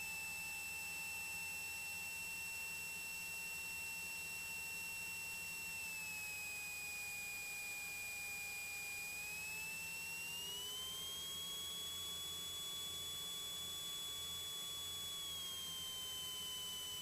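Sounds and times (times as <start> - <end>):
high-pitched electrical whine: 0.0 - 17.0.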